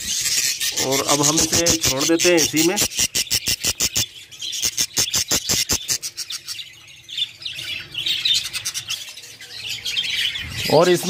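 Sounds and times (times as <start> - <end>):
budgerigars calling: 0.0 - 11.0
high chirping chatter: 0.0 - 11.0.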